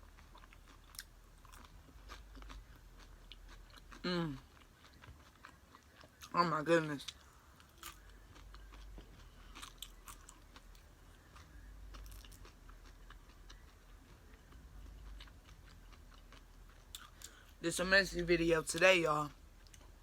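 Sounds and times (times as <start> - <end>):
person chewing crunchy nachos: 0.0 - 20.0.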